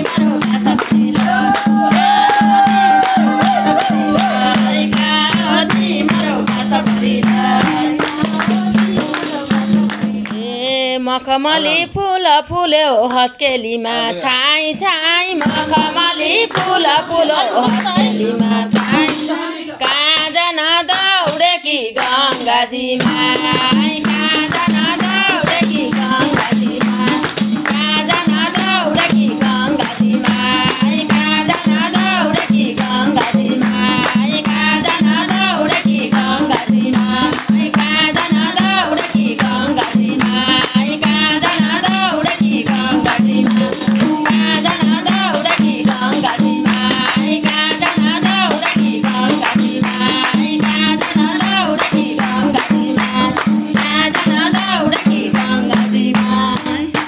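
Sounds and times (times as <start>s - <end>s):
rhythmic hand clapping: 0.0s - 10.5s, 14.6s - 57.0s
group singing folk song: 0.0s - 12.4s, 13.0s - 57.0s.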